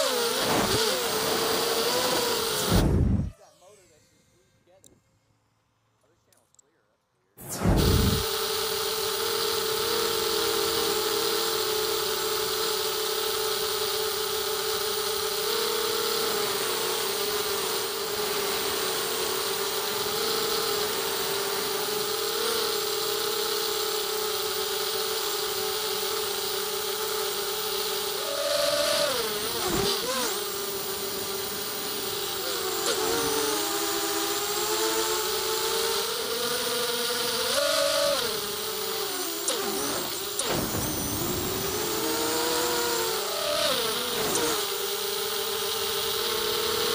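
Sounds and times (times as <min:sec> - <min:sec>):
quadcopter motors whining: 0:00.0 - 0:46.9.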